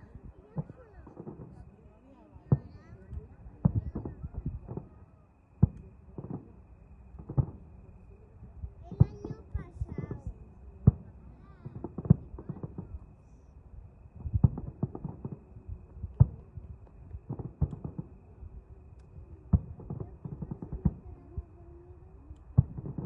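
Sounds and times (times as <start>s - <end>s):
fireworks bangs: 0.0s - 7.9s, 8.7s - 23.0s.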